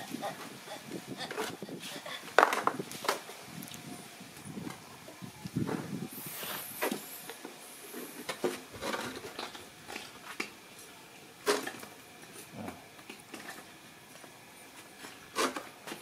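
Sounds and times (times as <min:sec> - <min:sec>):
animals moving on concrete: 0:00.0 - 0:16.0.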